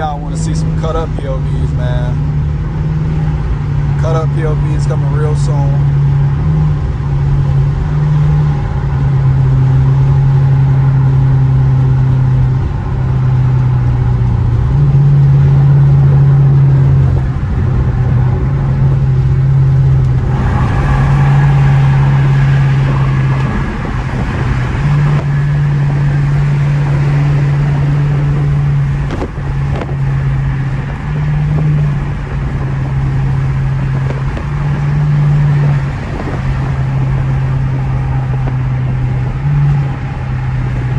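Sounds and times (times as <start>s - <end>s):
car exhaust droning: 0.0s - 40.9s
road and wind noise hiss: 0.0s - 40.9s.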